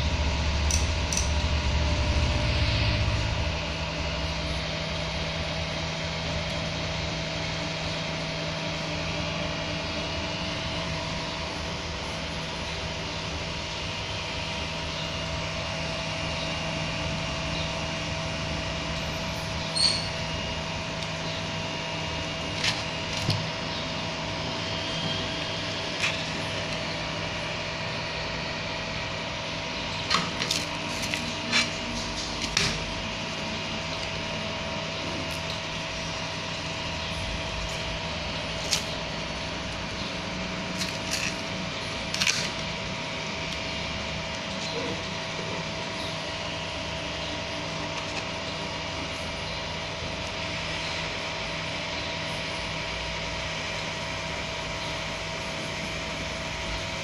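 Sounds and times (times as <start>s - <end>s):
cooling fans humming: 0.0s - 57.0s.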